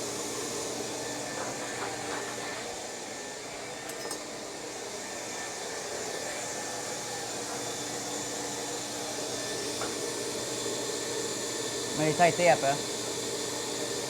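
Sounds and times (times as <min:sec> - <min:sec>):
fan humming and hissing: 0:00.0 - 0:14.0.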